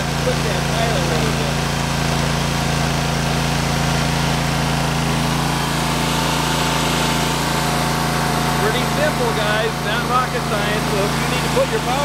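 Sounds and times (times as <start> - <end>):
trencher engine running: 0.0 - 12.0.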